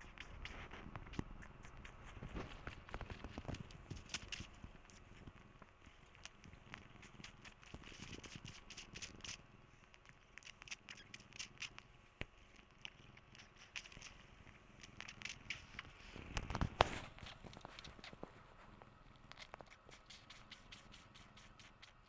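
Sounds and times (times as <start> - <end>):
cat purring: 0.0 - 22.0
rustling: 0.0 - 22.0
small clicking and scratching: 0.0 - 22.0.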